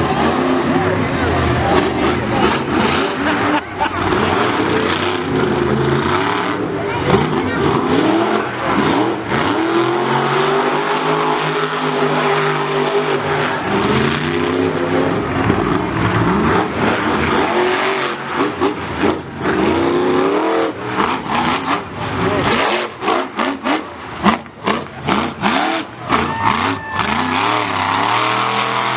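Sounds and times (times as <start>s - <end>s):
monster truck engine revving: 0.0s - 28.9s.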